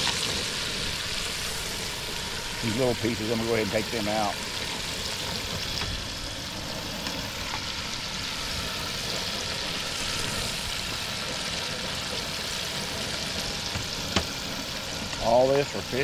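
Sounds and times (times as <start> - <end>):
burner rumble: 0.0 - 16.0
oil bubbling and sizzling: 0.0 - 16.0.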